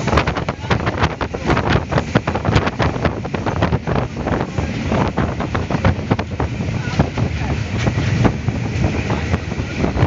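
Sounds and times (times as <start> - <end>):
locomotive engine and running gear: 0.0 - 10.0
wind buffeting microphone: 0.0 - 10.0.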